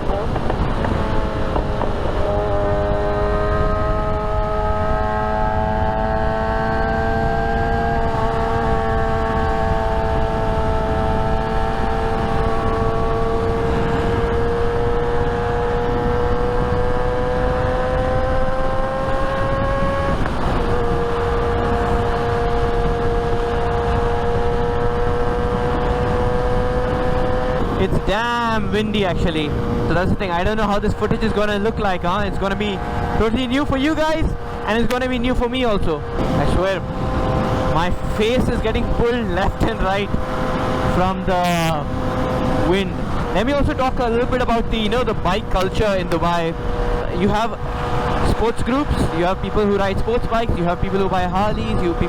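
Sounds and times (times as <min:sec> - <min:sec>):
motorcycle engine running: 0:00.0 - 0:52.0
wind buffeting microphone: 0:00.0 - 0:52.0.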